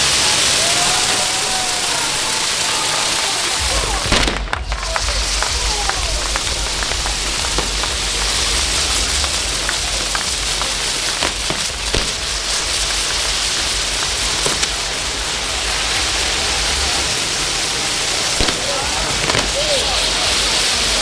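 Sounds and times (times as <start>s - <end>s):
fireworks pops and crackles: 0.0s - 21.0s
fireworks sparks hissing: 0.0s - 21.0s.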